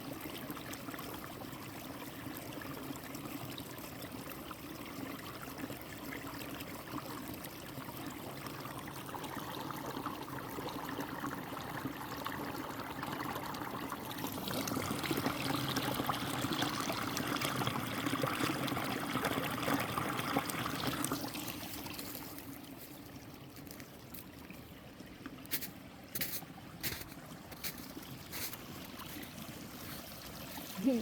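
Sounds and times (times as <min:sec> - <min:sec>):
water trickling: 0:00.0 - 0:31.0.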